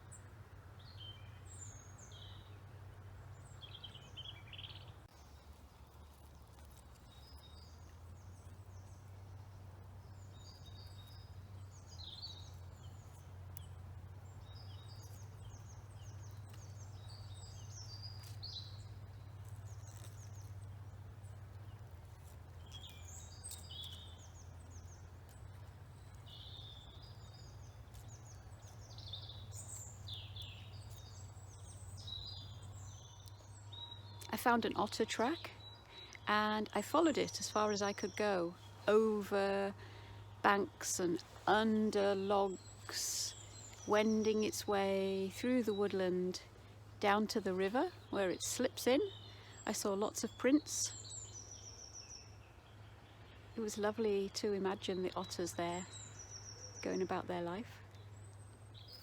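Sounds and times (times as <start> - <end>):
birds chirping and trilling: 0.0 - 59.0
low steady rumble: 0.0 - 59.0.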